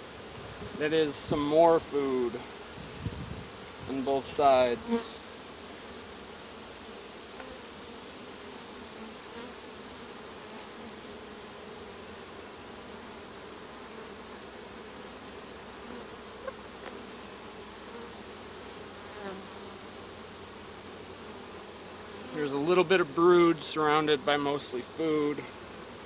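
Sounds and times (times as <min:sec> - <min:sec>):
honey bees humming: 0:00.0 - 0:26.0.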